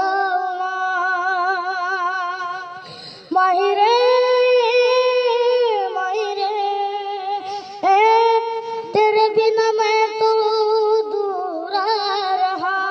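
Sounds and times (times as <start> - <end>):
boy singing in high voice: 0.0 - 12.9.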